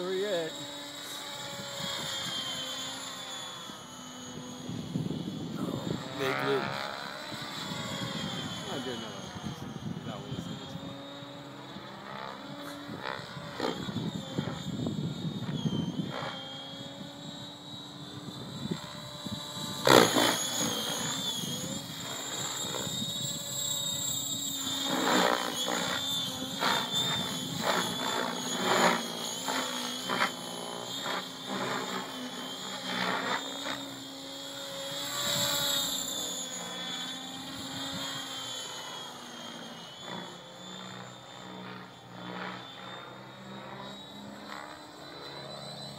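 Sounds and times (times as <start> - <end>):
rc helicopter motor whine: 0.0 - 45.9
rotor blade noise: 0.0 - 45.9.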